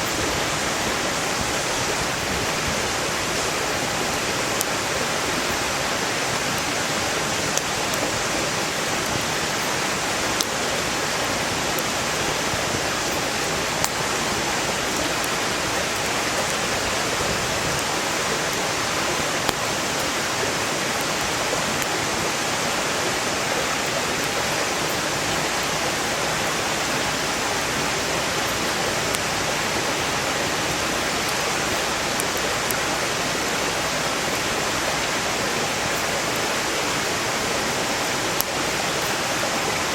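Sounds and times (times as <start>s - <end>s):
firewood crackling and popping: 0.0s - 39.9s
stream rushing: 0.0s - 39.9s.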